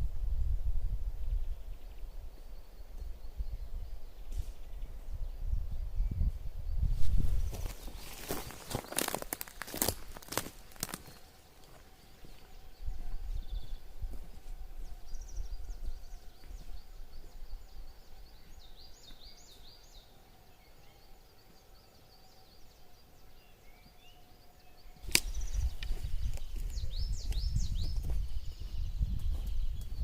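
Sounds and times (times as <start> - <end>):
small birds chirping: 1.2 - 30.0.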